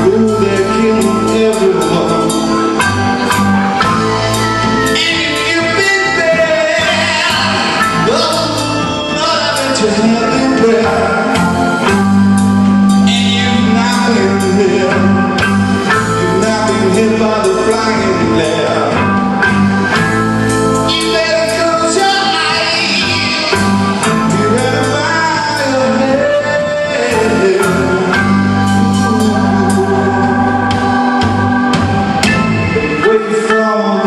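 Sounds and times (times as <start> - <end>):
man singing: 0.0 - 20.0, 20.8 - 34.0
drums and cymbals: 0.0 - 33.3
organ chords: 0.0 - 34.0.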